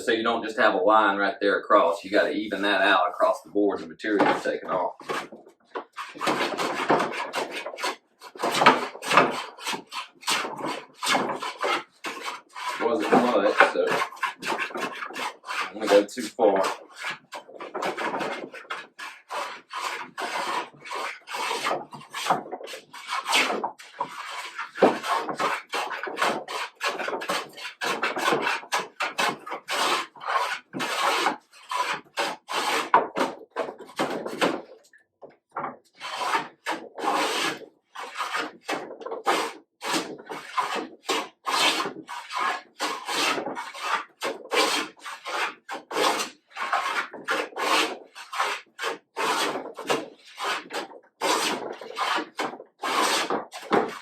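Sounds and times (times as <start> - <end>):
hand plane cutting wood: 1.8 - 3.4, 4.0 - 34.9, 35.6 - 54.0.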